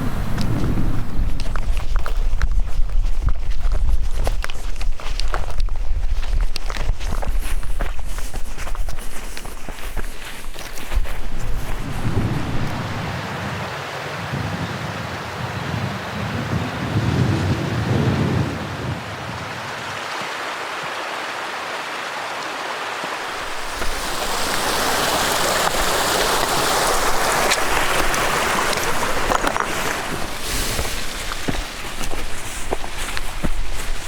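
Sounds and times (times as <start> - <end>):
wind buffeting microphone: 0.0 - 13.2, 14.3 - 19.6, 23.4 - 34.0
stream rushing: 0.0 - 14.4, 19.0 - 34.0.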